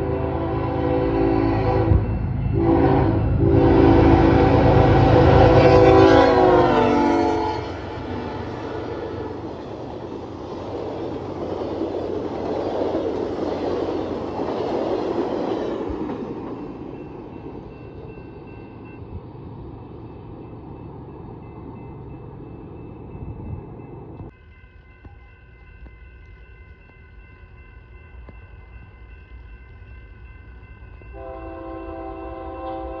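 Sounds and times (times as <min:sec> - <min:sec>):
train wheels on rails: 0:01.7 - 0:33.0.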